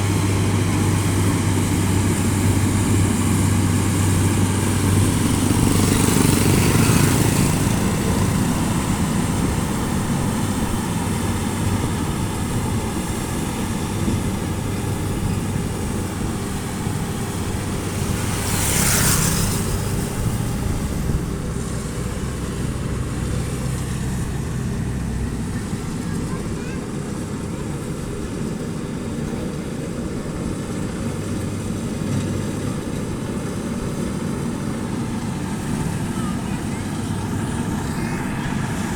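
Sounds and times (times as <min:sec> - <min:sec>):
combine harvester engine hum: 0:00.0 - 0:38.9
threshing machinery noise: 0:00.0 - 0:38.9.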